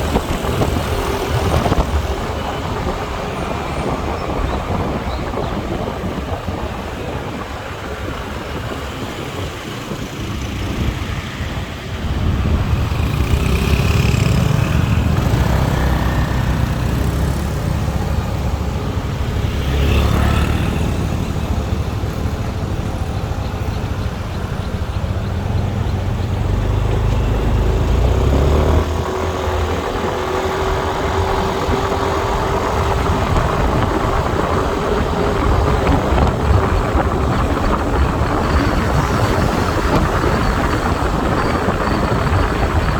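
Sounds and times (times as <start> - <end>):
motorbike engine and road rumble: 0.0 - 42.9.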